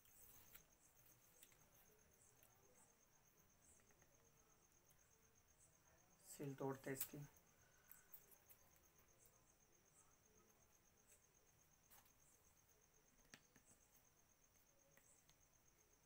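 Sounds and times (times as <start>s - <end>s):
cricket trill: 0.0s - 16.0s.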